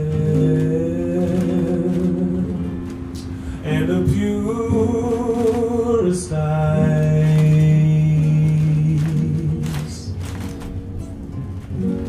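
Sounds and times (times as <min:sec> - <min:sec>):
man singing: 0:00.0 - 0:10.5
acoustic guitar: 0:00.0 - 0:12.0.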